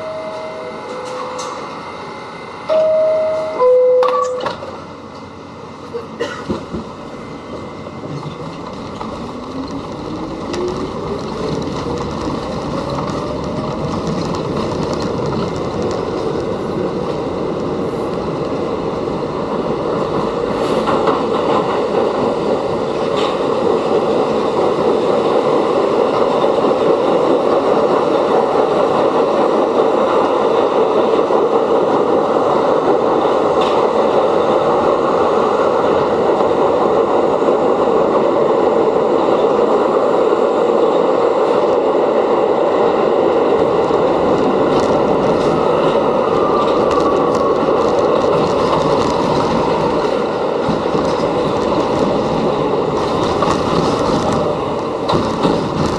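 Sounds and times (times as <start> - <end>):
running train rumble: 0.0 - 55.9.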